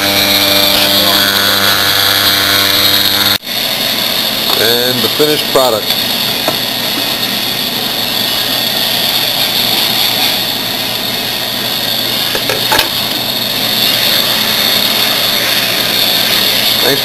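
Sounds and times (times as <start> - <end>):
cnc router whining: 0.0 - 17.0.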